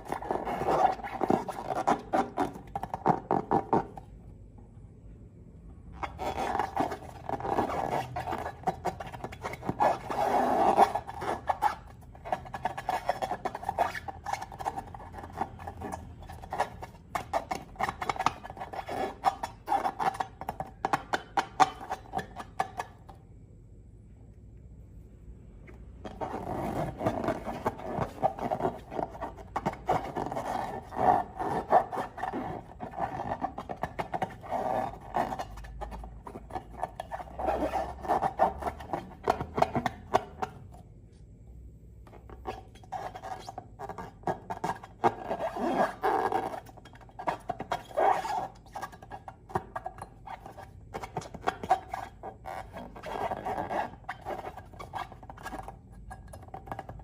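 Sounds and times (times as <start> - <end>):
rubber balloons rubbing: 0.0 - 4.1, 5.9 - 23.0, 26.0 - 40.7, 42.1 - 57.0.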